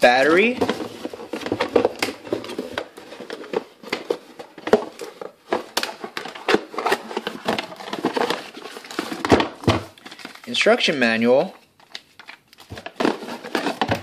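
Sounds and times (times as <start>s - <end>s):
cardboard and plastic rustling: 0.0s - 14.0s.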